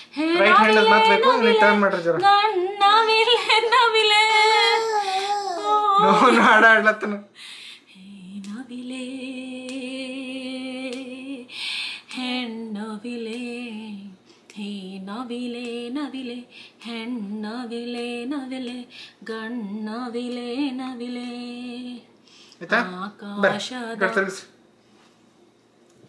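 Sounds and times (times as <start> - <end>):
woman singing a lullaby: 0.0 - 6.4, 7.8 - 22.2, 22.8 - 24.3.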